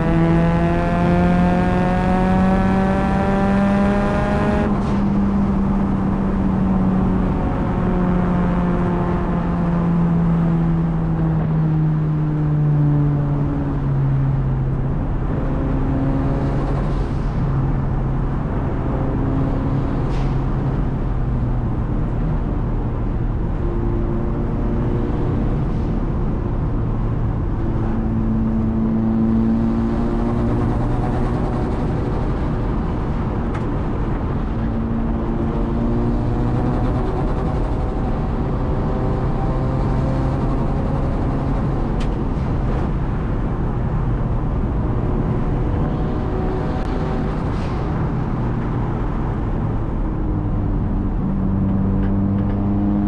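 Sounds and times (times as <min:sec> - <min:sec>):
car engine while driving: 0:00.0 - 0:53.0
road noise: 0:00.0 - 0:53.0.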